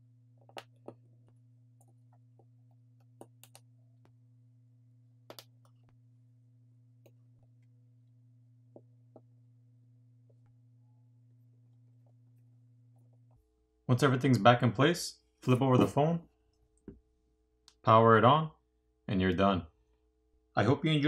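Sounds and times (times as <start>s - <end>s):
faint steady low hum: 0.0s - 21.0s.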